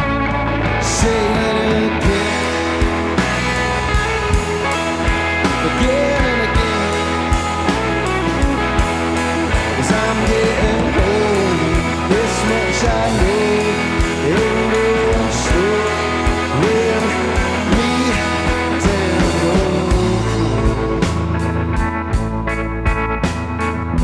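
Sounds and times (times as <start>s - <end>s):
lead guitar bending melody: 0.0s - 24.0s
rock band playing: 0.0s - 24.0s.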